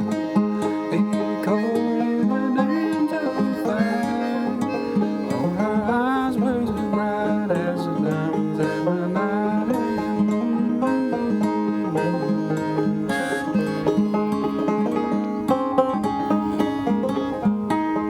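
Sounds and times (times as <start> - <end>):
bluegrass banjo music: 0.0 - 18.0.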